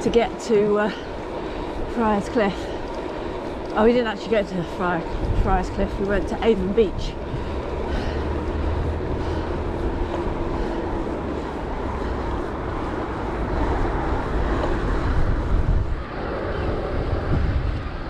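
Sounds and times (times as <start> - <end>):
tyre and road noise: 0.0 - 18.0
wind rumble on microphone: 0.0 - 18.0.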